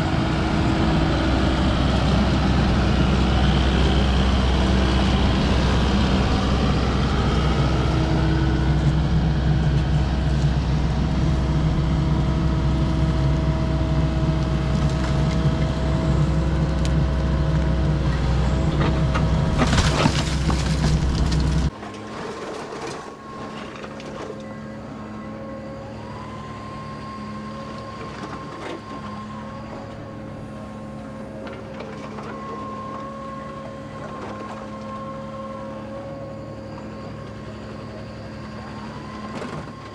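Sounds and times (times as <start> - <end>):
excavator diesel engine running: 0.0 - 39.9
faint engine whine: 0.0 - 39.9.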